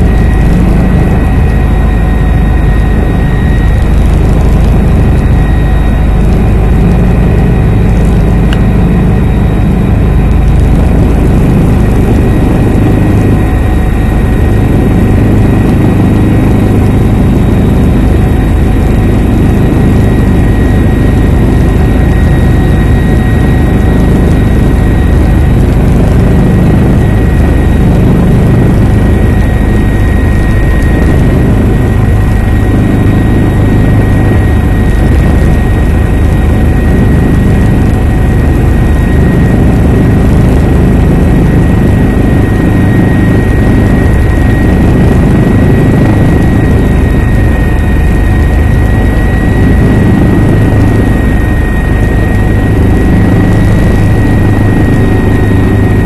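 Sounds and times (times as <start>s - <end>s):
helicopter rotor and engine noise: 0.0s - 56.0s
thin high whine: 0.0s - 56.0s.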